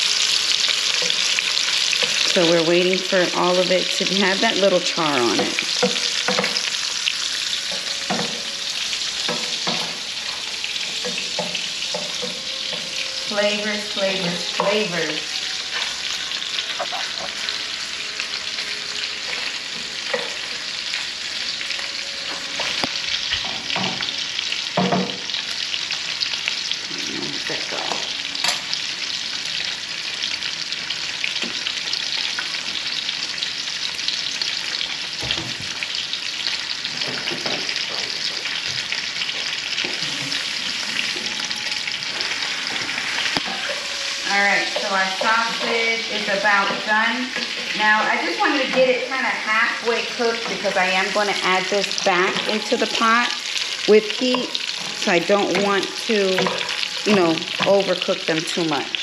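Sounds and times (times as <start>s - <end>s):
sausage sizzling in a pan: 0.0s - 59.0s.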